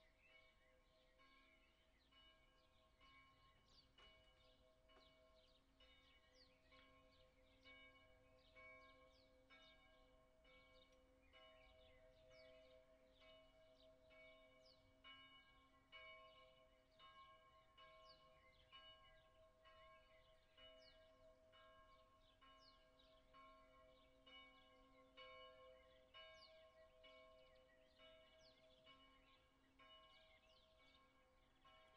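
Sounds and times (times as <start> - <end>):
distant church bell ringing: 0.0 - 31.9.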